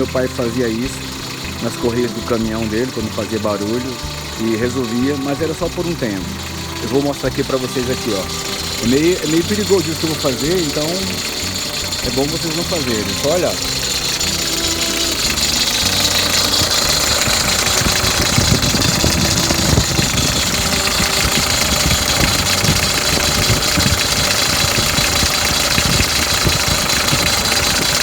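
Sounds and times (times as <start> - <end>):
diesel engine idling: 0.0 - 28.0
drive belt squealing: 0.0 - 28.0.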